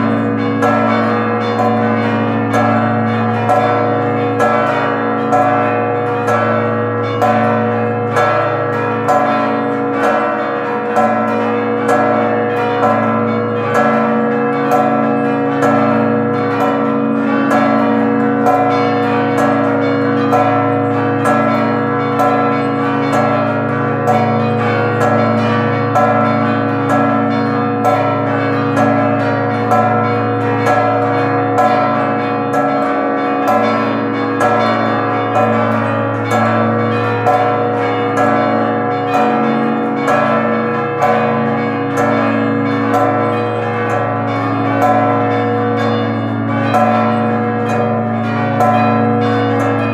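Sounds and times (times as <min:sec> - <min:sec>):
church bells ringing rapidly: 0:00.0 - 0:49.9.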